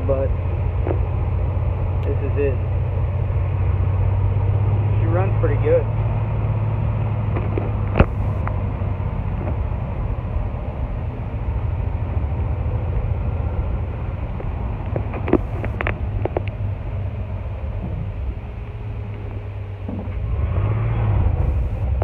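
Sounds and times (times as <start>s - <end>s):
road noise: 0.0s - 22.0s
truck engine drone: 0.0s - 22.0s.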